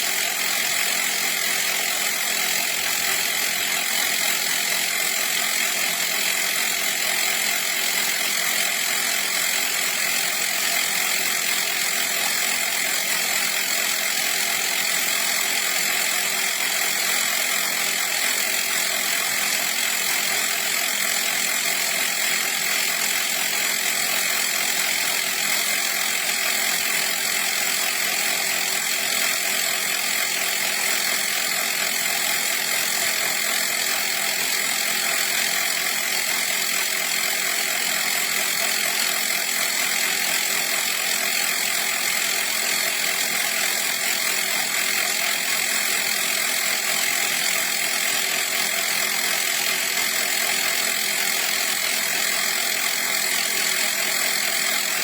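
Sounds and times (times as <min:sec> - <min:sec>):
air compressor buzzing: 0:00.0 - 0:55.0.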